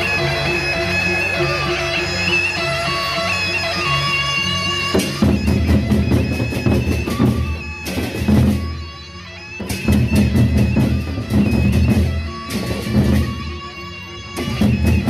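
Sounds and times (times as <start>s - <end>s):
cymbals clashing: 0.0s - 15.0s
steady held high tone: 0.0s - 15.0s.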